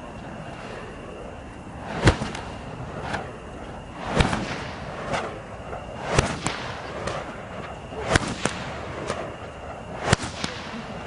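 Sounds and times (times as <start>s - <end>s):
fire whip cracking: 1.8s - 11.0s.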